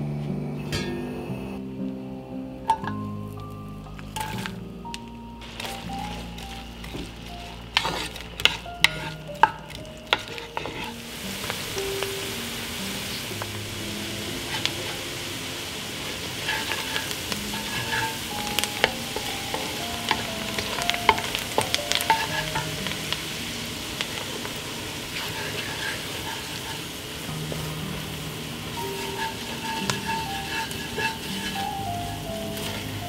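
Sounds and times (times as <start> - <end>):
onions sizzling in butter: 2.6 - 33.0
wooden spatula scraping pot: 4.0 - 33.0.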